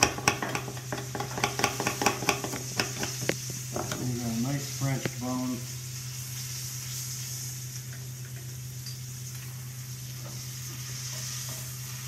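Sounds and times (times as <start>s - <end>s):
low hum with high hiss: 0.0s - 12.0s.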